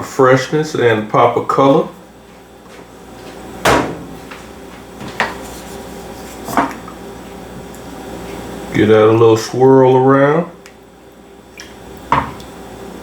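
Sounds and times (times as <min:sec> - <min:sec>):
low kitchen background: 0:00.0 - 0:13.0.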